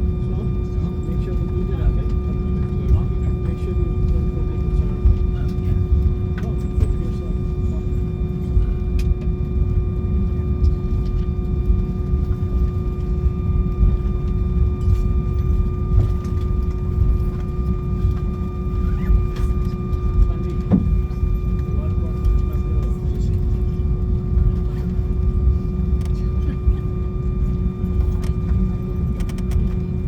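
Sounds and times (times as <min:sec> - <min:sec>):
aircraft cabin rumble: 0:00.0 - 0:30.0
engine whining hum: 0:00.0 - 0:30.0.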